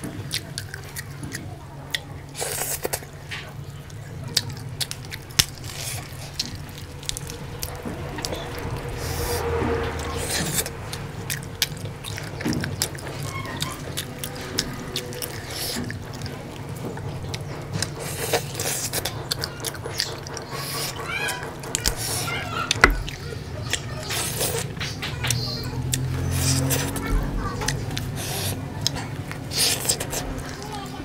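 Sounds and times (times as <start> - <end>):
chewing meat off the bone: 0.0 - 30.9.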